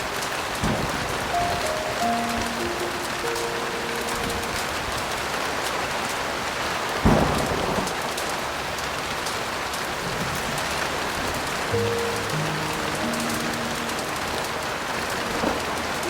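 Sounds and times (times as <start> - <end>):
heavy rain: 0.0 - 16.0
thunder crack and rumble: 0.4 - 16.0.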